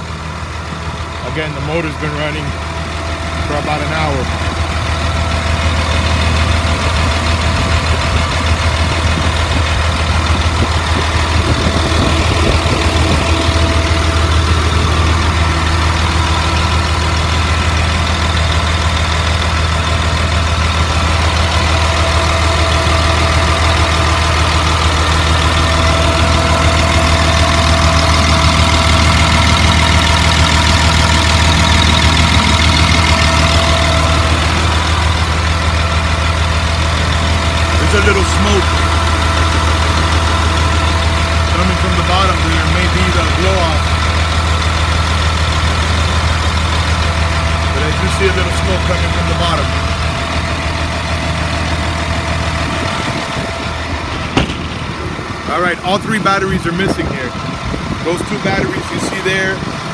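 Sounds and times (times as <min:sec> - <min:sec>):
diesel bus engine idling: 0:00.0 - 0:59.9.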